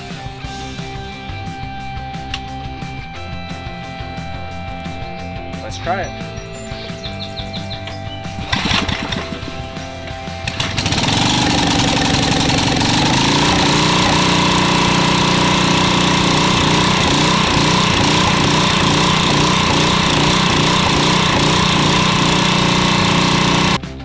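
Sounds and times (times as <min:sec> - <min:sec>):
generator engine running: 0:00.0 - 0:24.0.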